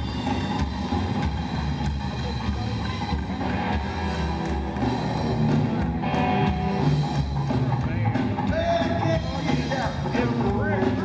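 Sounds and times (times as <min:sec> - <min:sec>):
drum kit: 0:00.0 - 0:11.0
electric guitar: 0:00.0 - 0:11.0.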